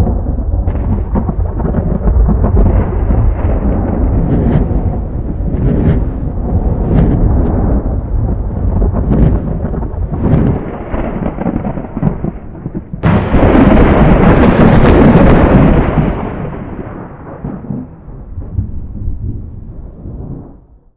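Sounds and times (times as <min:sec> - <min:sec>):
thunder rumbling and cracking: 0:00.0 - 0:20.9.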